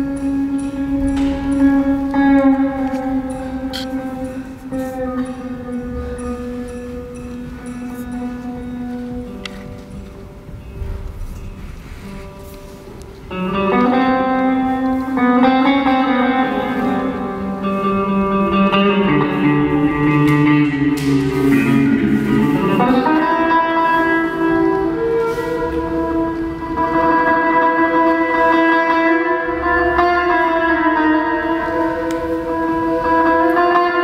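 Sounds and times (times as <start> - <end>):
improvised music with electric guitar: 0.0 - 34.0.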